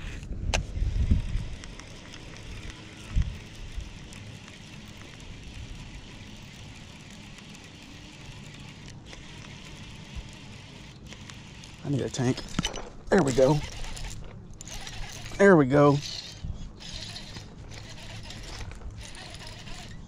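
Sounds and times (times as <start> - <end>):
fishing reel whirring: 0.8 - 12.3, 13.2 - 20.0.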